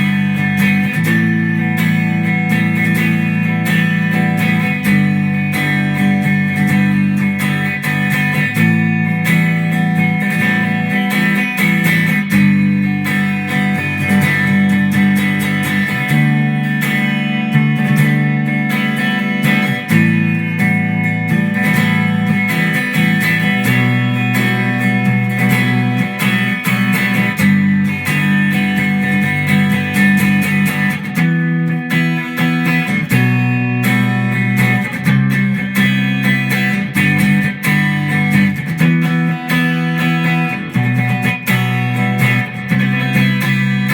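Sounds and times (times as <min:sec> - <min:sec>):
guitar strummed and picked: 0:00.0 - 0:43.9.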